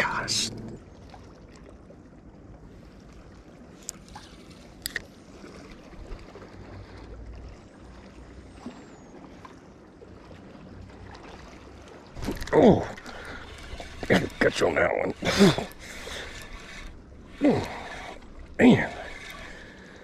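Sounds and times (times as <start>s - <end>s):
light wind: 0.0s - 20.0s
water noise around boat: 0.0s - 20.0s.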